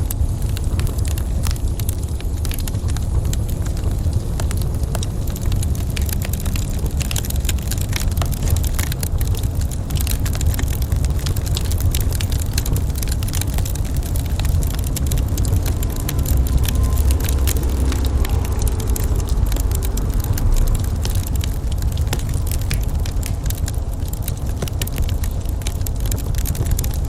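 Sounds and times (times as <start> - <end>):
wood fire crackling in fireplace: 0.0 - 27.0.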